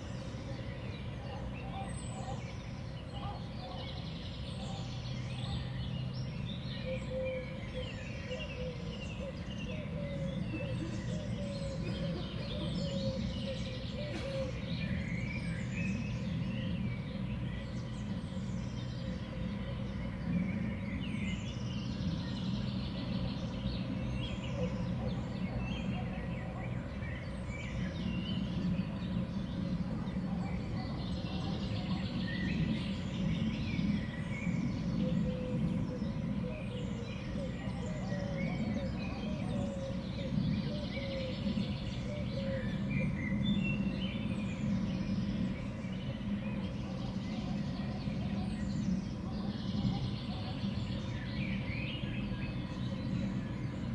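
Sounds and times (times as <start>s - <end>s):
small songbirds chirping: 0.0s - 53.9s.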